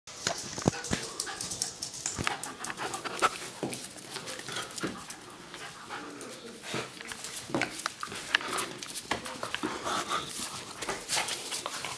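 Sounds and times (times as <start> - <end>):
dogs scuffling: 0.1 - 11.9
claws clicking on tile floor: 0.2 - 5.4, 6.9 - 11.9
dogs panting: 0.7 - 11.9.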